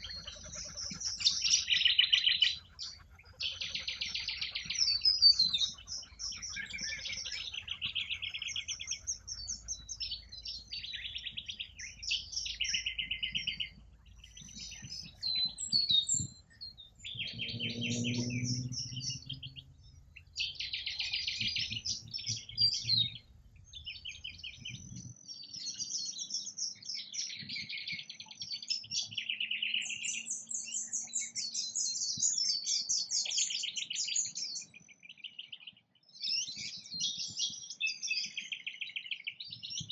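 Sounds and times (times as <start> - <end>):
birds chirping: 0.0 - 35.6.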